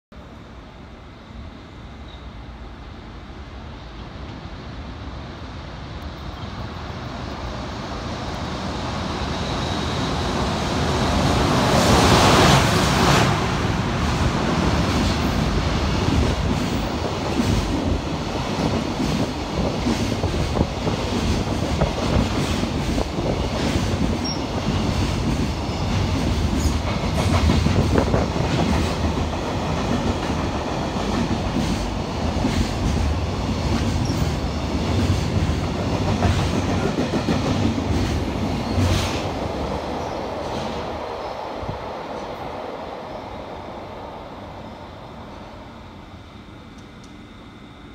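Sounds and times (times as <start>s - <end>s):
electric locomotive passing: 0.2s - 47.9s.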